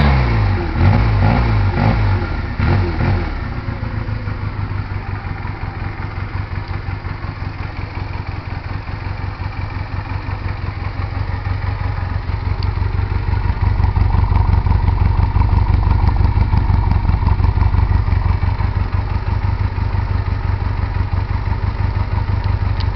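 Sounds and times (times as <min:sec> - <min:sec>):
motorcycle engine idling: 0:00.1 - 0:22.9.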